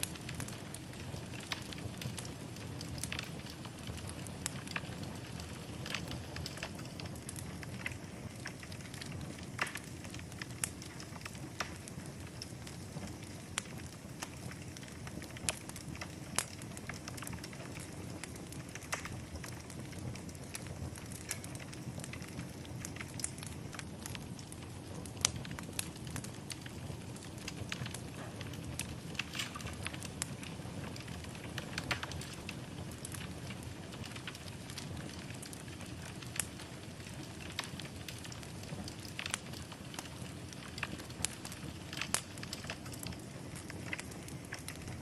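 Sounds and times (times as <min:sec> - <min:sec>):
fire crackling and popping: 0:00.0 - 0:45.0
fire rumbling: 0:00.0 - 0:45.0.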